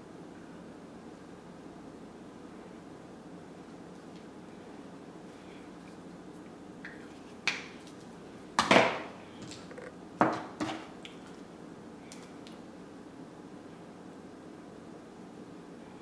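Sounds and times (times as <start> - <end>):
faint room hiss: 0.0 - 16.0.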